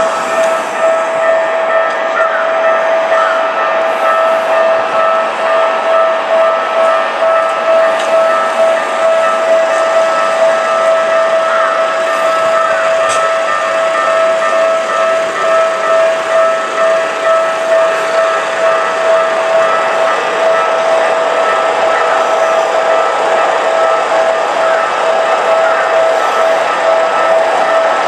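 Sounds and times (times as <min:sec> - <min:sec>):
level crossing alarm ringing: 0:00.0 - 0:28.0
train passing: 0:00.0 - 0:28.0.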